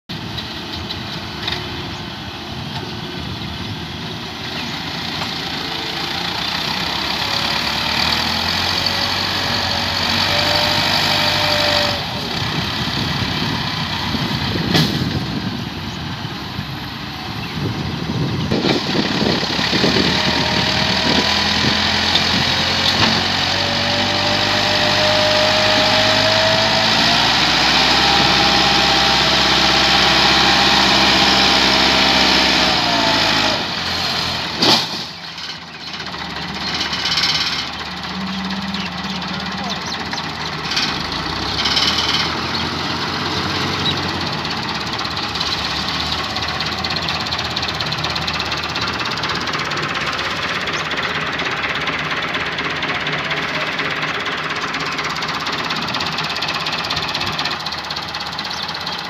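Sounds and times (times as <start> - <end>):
tractor diesel engine revving: 0.1 - 59.0.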